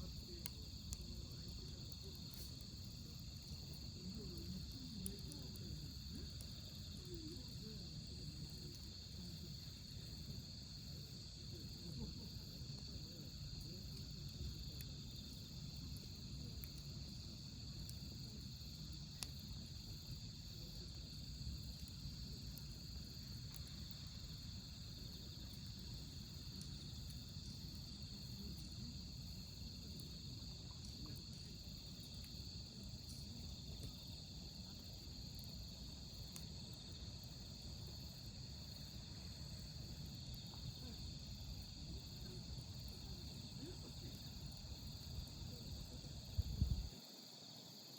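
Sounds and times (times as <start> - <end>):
campfire burning and crackling: 0.0 - 47.0
crickets chirping: 0.0 - 47.9.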